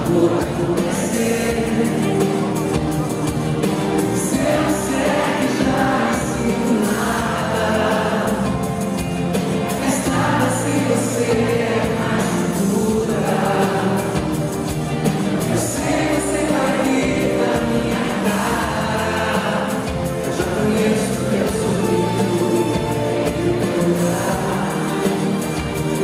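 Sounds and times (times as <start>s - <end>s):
live band playing slow song: 0.0s - 26.0s
person singing: 0.0s - 26.0s.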